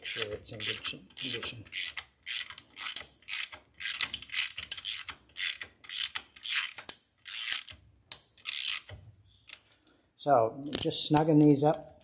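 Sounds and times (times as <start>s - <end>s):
socket ratchet clicking: 0.0s - 9.6s.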